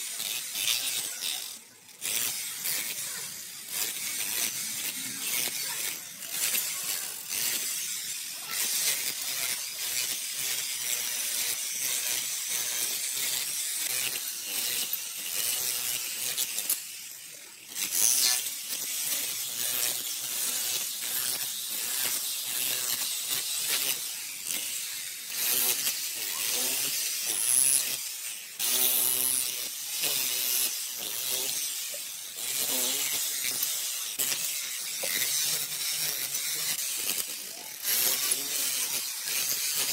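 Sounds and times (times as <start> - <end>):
electric chipping hammer rattling: 0.0 - 39.9.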